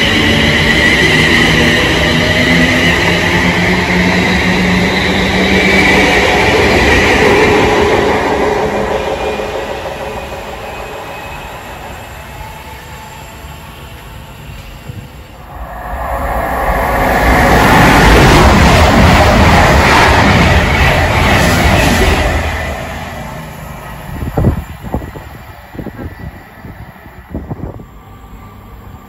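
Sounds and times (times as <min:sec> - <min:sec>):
electric train whine: 0:00.0 - 0:29.0
rail noise: 0:00.0 - 0:29.0.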